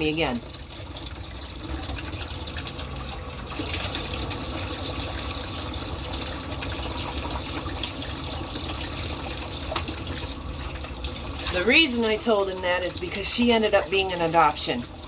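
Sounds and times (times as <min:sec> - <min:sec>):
water running from tap: 0:00.0 - 0:15.0.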